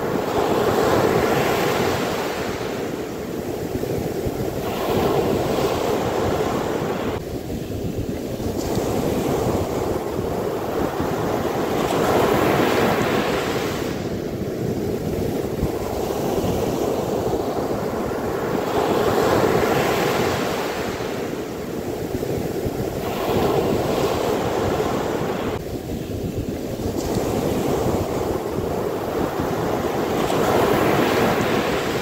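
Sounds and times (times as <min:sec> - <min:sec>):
surf washing over sand: 0:00.0 - 0:32.0.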